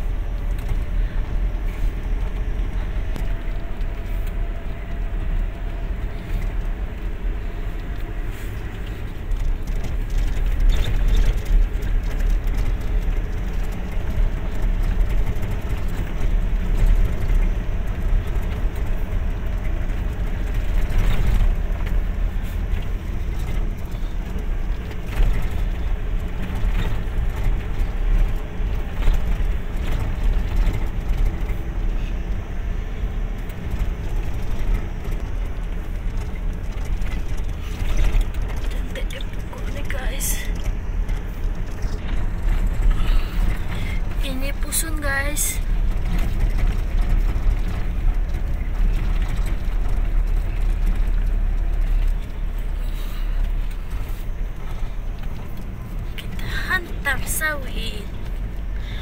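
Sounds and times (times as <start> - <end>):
engine and tyre rumble: 0.0 - 59.0
knocks and rattles over bumps: 0.0 - 59.0.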